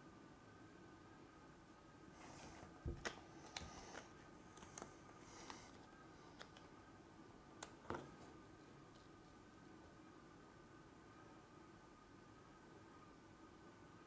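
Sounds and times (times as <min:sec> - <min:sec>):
quiet room hum: 0:00.0 - 0:14.0
soft rustle of vinyl: 0:00.0 - 0:14.0.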